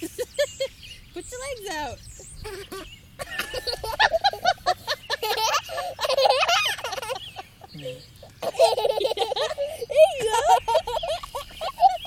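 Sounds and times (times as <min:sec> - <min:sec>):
young child laughing: 0:00.0 - 0:00.8, 0:02.4 - 0:12.0.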